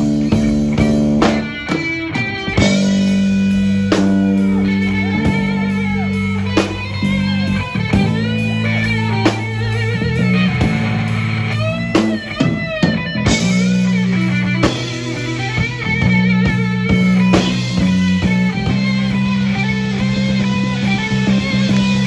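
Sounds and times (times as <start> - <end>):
bass guitar: 0.0 - 22.0
drums: 0.0 - 22.0
electric guitar lead lines: 0.0 - 22.0.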